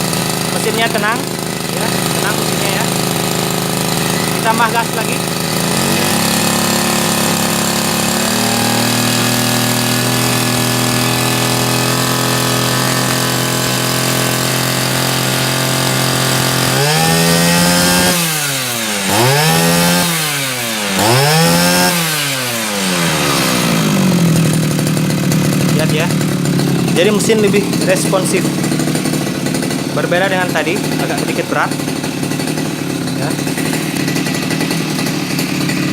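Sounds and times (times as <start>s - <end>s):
brush cutter engine revving: 0.0s - 35.9s.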